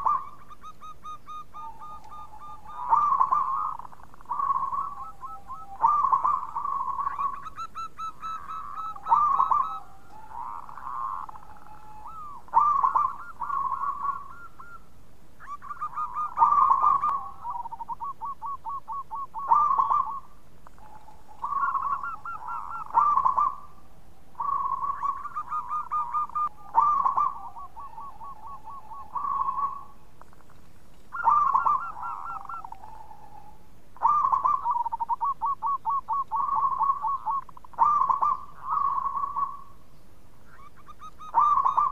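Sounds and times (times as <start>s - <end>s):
dove cooing: 0.0s - 39.8s, 40.4s - 41.9s.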